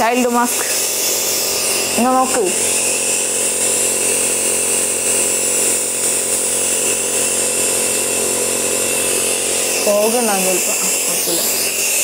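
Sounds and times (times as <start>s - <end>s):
nebulizer motor buzz: 0.0s - 12.0s.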